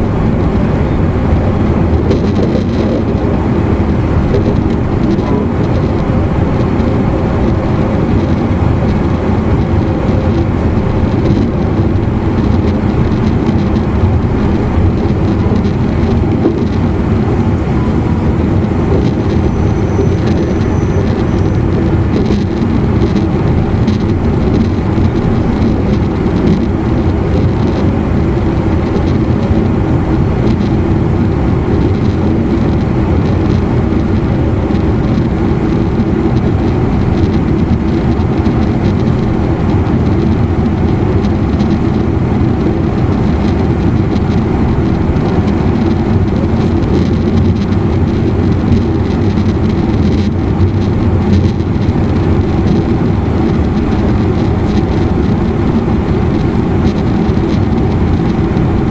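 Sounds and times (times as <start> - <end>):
faint steady whine: 0.0 - 58.9
train wheels on rail: 0.0 - 58.9.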